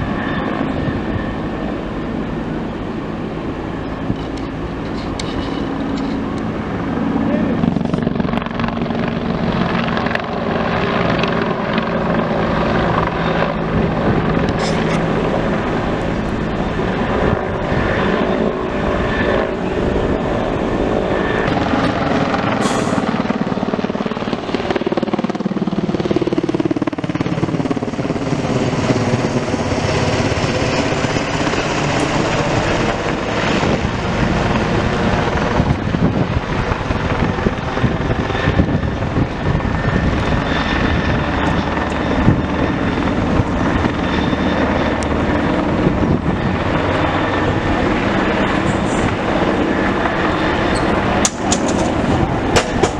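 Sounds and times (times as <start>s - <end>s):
helicopter rotor and turbine: 0.0s - 52.9s.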